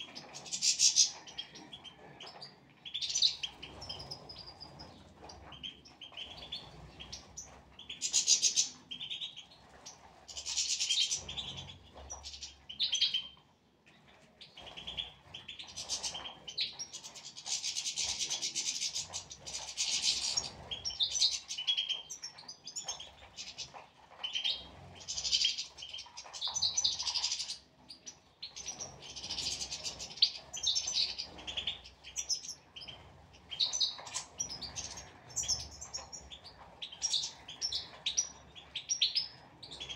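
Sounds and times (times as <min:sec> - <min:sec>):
finches twittering: 0:00.0 - 0:13.4, 0:14.4 - 0:39.9.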